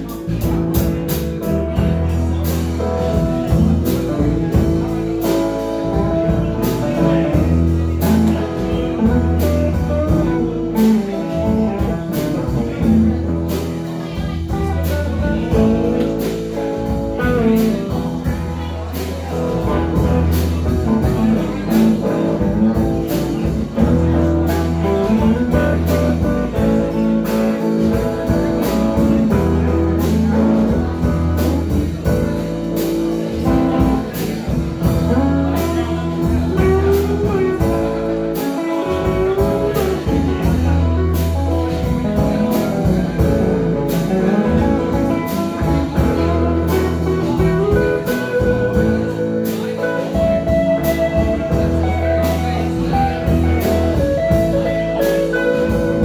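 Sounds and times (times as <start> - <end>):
bending lead guitar lines: 0.0 - 56.0
live blues-rock band playing: 0.0 - 56.0.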